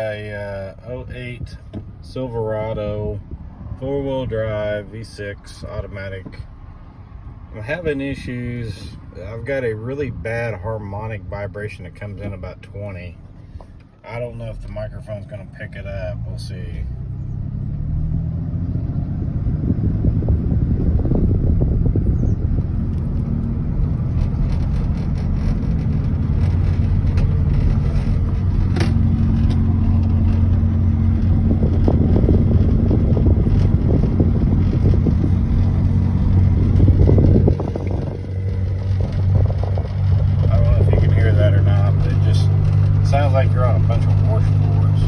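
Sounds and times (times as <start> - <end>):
truck low rumbling drone: 0.0 - 45.0.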